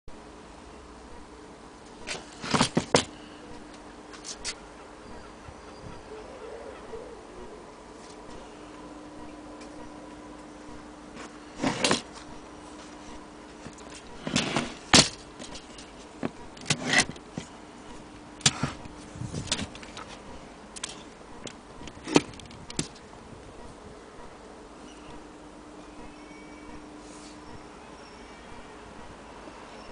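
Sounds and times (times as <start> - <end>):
faint steady hum: 0.1 - 29.9.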